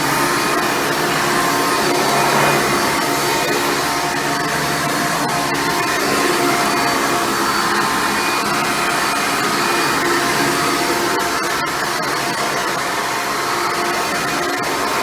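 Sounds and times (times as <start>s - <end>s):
upright vacuum cleaner running: 0.0s - 12.4s.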